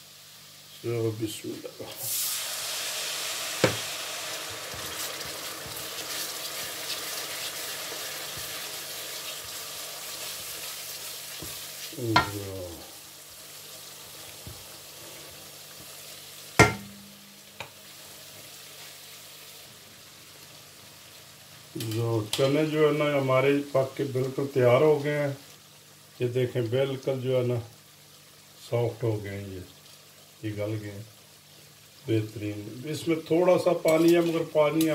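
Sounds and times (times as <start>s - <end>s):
masala sizzling and bubbling: 0.0s - 34.9s.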